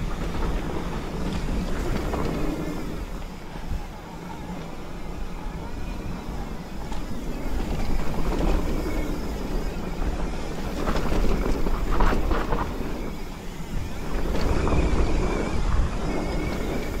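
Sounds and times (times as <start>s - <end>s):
bike rattles: 0.0s - 17.0s
bike tyre noise: 0.0s - 17.0s
wind on microphone: 0.0s - 17.0s.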